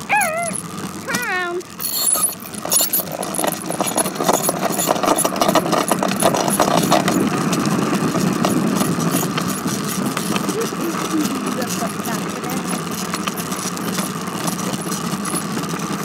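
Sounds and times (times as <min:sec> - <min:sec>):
bicycle rattling on road: 0:00.0 - 0:16.0.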